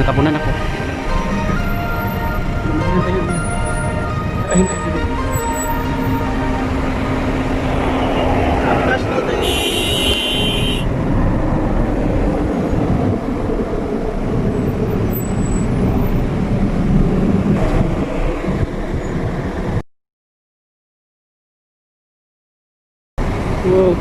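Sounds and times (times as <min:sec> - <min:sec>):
car road and engine rumble: 0:00.0 - 0:19.8, 0:23.2 - 0:24.0.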